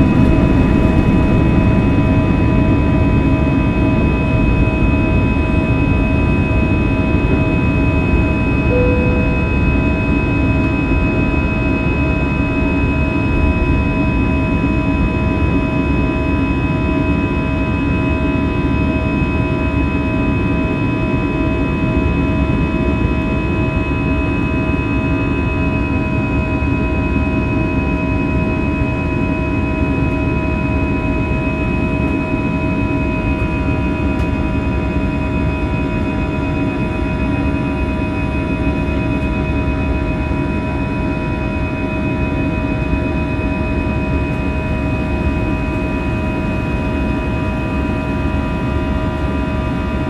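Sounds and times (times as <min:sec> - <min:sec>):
jet engines roaring in cabin: 0:00.0 - 0:50.0.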